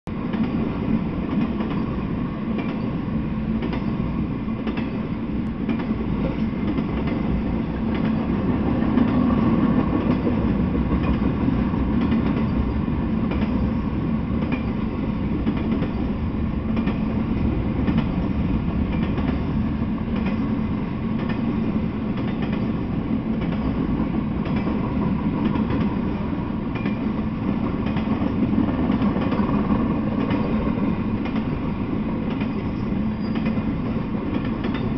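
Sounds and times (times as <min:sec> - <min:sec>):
freight train wheels rumbling: 0:00.1 - 0:34.9.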